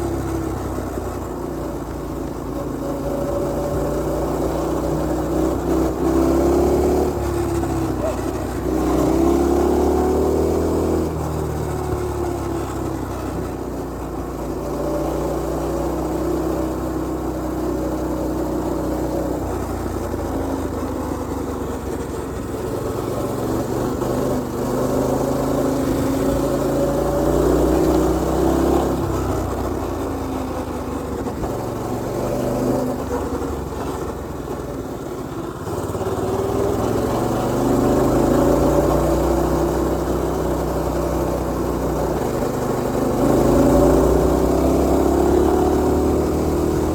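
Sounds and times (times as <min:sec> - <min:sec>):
mini bike engine revving: 0:00.0 - 0:46.9.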